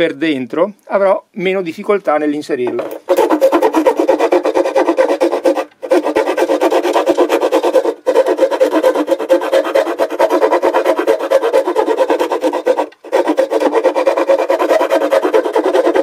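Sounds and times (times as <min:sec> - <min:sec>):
file rasping on wood: 0:02.7 - 0:16.0.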